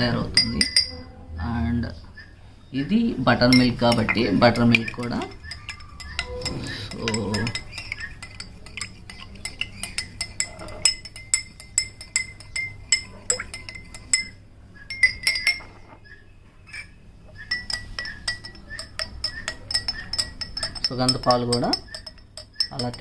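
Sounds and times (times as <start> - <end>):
spoon clinking in a glass: 0.0 - 1.1, 3.4 - 16.0, 16.7 - 23.0.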